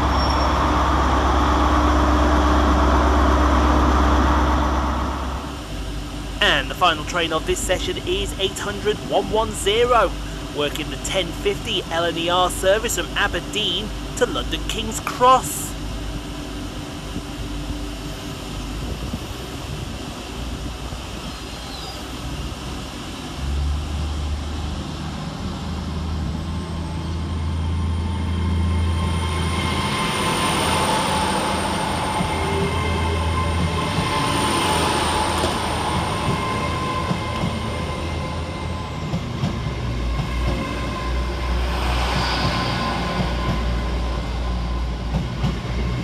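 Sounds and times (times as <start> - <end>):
high steady whine: 0.0 - 45.5
train engine drone: 0.0 - 46.0.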